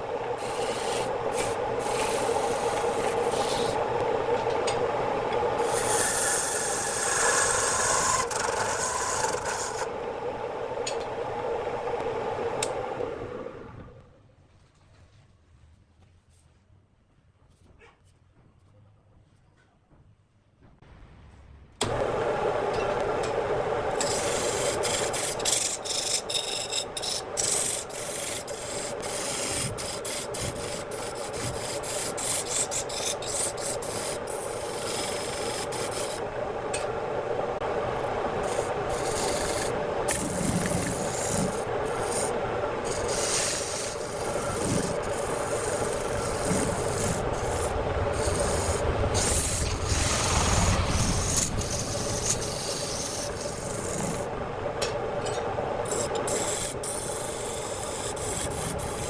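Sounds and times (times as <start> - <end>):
tool scraping spinning wood: 0.0 - 14.0, 21.8 - 59.0
wood lathe humming: 0.0 - 14.0, 21.8 - 59.0.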